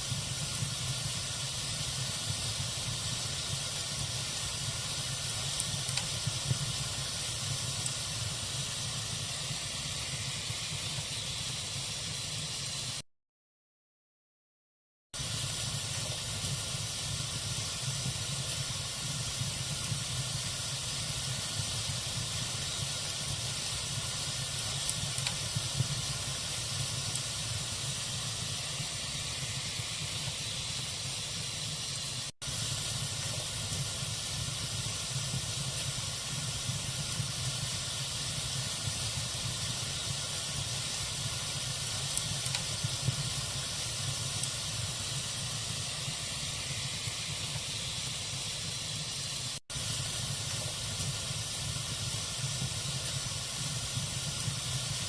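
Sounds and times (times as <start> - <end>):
logs burning in a fireplace: 0.0 - 13.0, 15.2 - 55.0.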